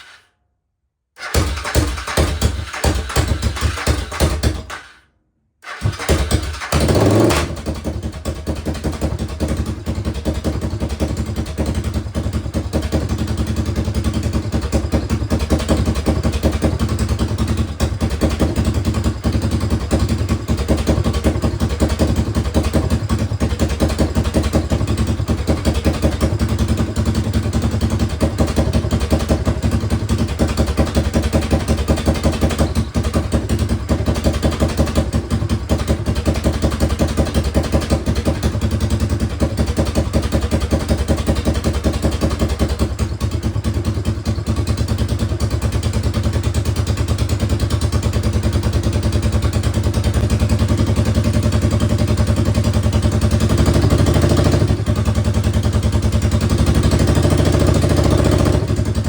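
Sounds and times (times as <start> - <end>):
motorcycle engine revving and idling: 1.2 - 5.0, 5.6 - 59.0.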